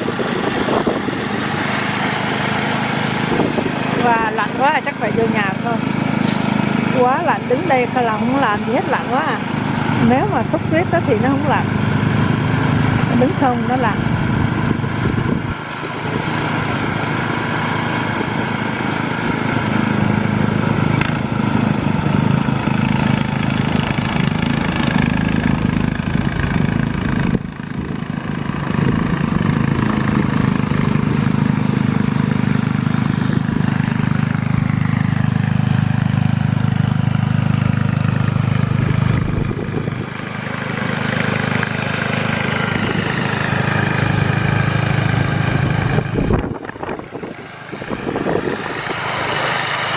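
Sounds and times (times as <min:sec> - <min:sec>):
snowblower engine running: 0:00.0 - 0:49.9.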